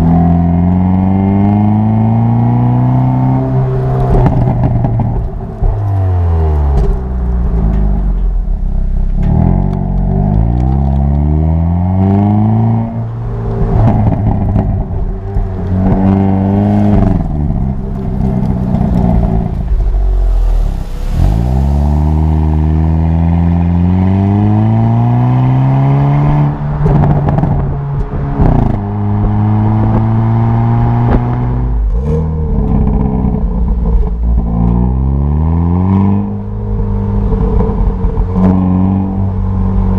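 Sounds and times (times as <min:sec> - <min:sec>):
car engine accelerating hard: 0:00.0 - 0:39.9
exhaust cracks: 0:00.0 - 0:39.9.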